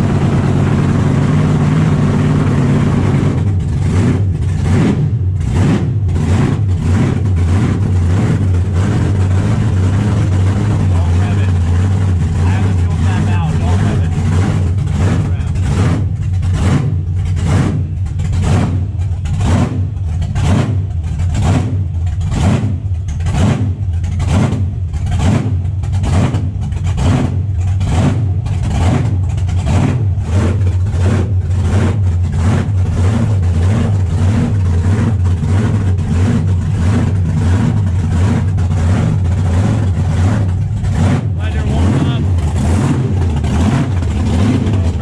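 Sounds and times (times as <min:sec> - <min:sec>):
loud lumpy engine idling: 0:00.0 - 0:45.0.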